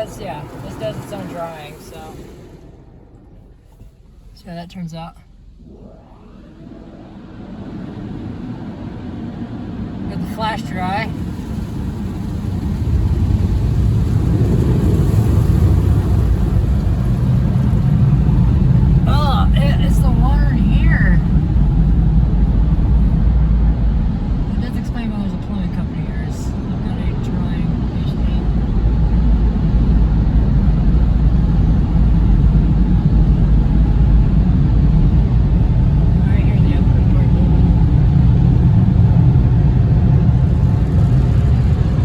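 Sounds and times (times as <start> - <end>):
car wash dryer rumbling: 0.0 - 42.0.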